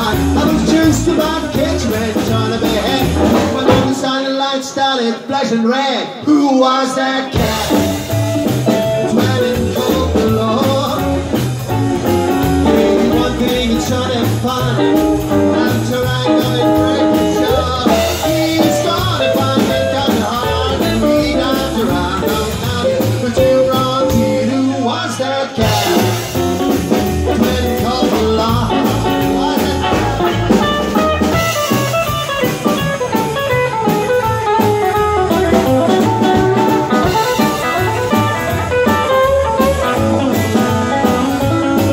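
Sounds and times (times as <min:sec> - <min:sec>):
rockabilly band playing: 0:00.0 - 0:41.9.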